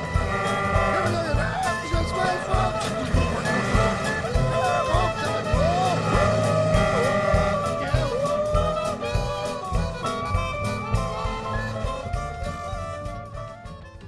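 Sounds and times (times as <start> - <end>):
upbeat jazzy music: 0.0 - 14.0.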